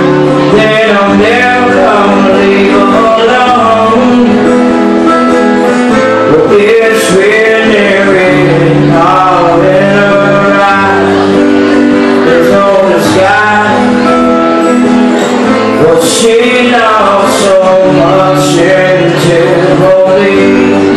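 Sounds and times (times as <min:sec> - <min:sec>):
acoustic guitar: 0:00.0 - 0:20.9
man singing: 0:00.0 - 0:20.9.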